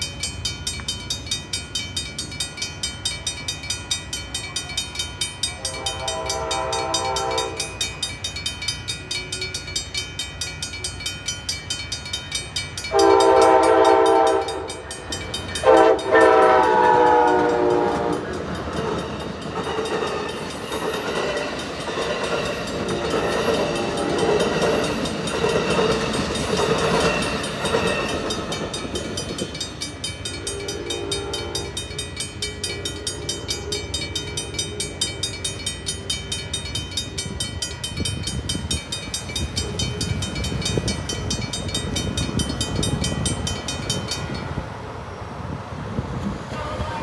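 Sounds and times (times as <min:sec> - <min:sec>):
train wheels clattering on rails: 0:00.0 - 0:44.8
crossing bells ringing: 0:00.0 - 0:45.6.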